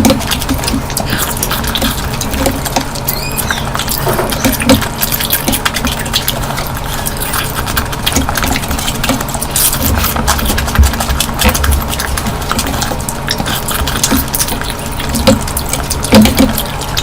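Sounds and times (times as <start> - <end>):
wet chewing and slurping: 0.0 - 17.0.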